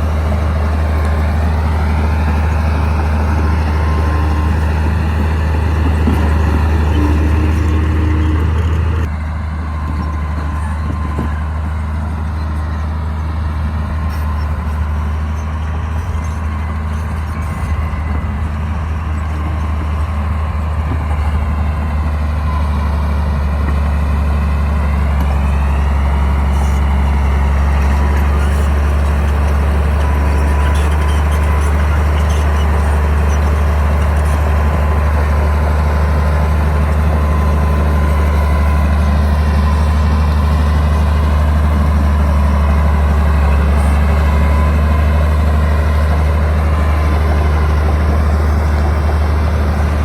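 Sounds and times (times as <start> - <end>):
bulldozer diesel engine humming: 0.0 - 50.0.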